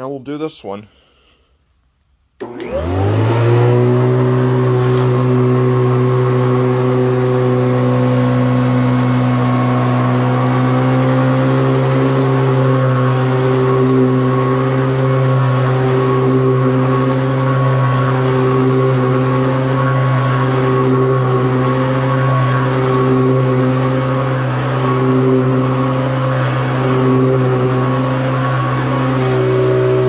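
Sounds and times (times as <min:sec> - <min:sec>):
vacuum cleaner motor hum: 0:02.4 - 0:30.0.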